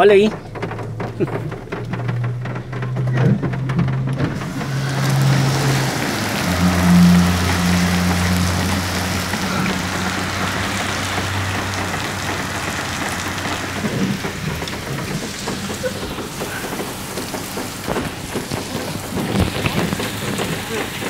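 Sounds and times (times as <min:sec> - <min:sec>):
low hum: 0:00.0 - 0:20.0
water pouring and splashing: 0:00.0 - 0:21.0
heavy rain: 0:01.0 - 0:21.0.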